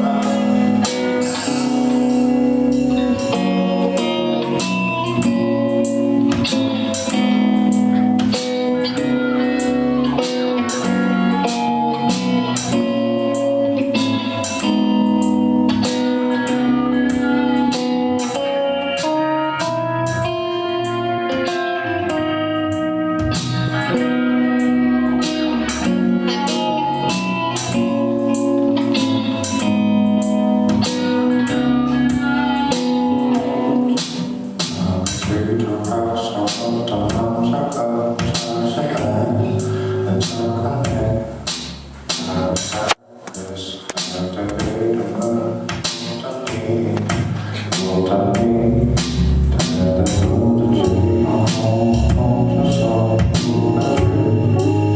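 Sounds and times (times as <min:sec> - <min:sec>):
lead guitar: 0:00.0 - 0:54.9
live band playing: 0:00.0 - 0:54.9.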